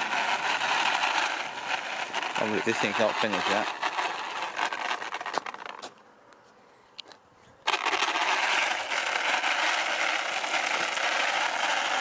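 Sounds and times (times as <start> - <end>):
rc car tyres and drivetrain rushing: 0.0 - 6.0, 7.6 - 12.0.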